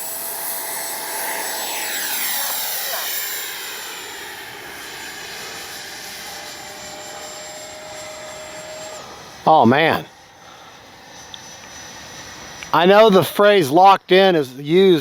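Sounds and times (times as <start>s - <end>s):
electric jet fan whining: 0.0s - 13.3s.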